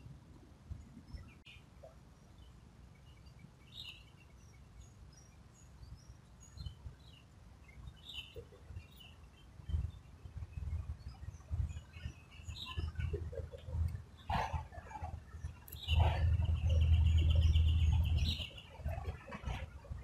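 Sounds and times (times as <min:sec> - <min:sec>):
bird chirps: 0:02.4 - 0:19.6.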